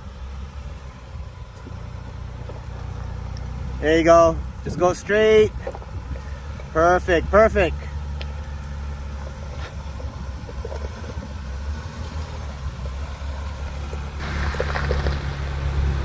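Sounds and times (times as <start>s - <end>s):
engine running at low speed: 0.0s - 16.0s
crackling gritty noise: 1.5s - 16.0s.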